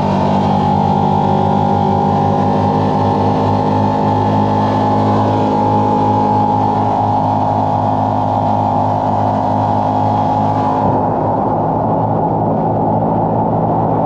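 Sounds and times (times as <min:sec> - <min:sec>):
vehicle engine drone with whine: 0:00.0 - 0:14.0.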